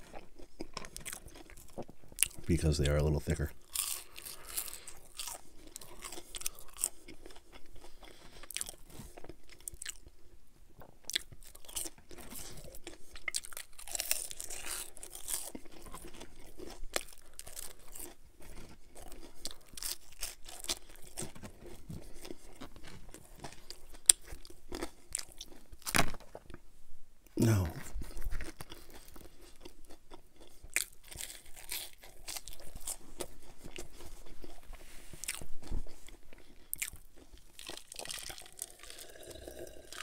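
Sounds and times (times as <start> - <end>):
person chewing fries: 0.0 - 26.7, 27.4 - 40.0.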